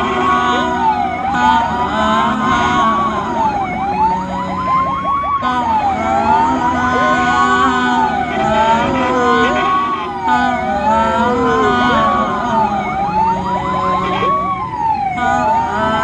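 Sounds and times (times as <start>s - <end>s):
ambulance siren wailing: 0.0s - 16.0s
rapid yelping siren: 0.0s - 16.0s
road and engine noise: 0.0s - 16.0s.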